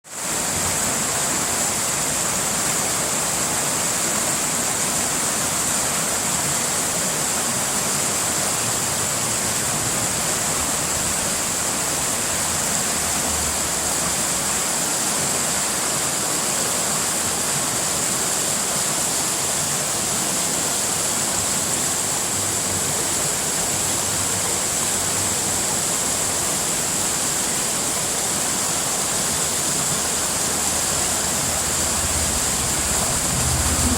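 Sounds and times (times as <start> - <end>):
creek water flowing over rocks: 0.0 - 33.9.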